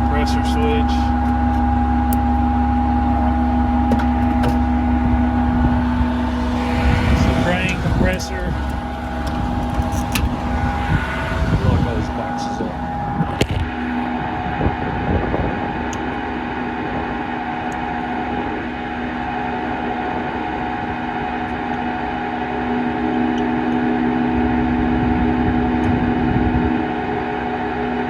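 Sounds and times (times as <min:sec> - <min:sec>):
truck mechanical hum with whining: 0:00.0 - 0:28.0.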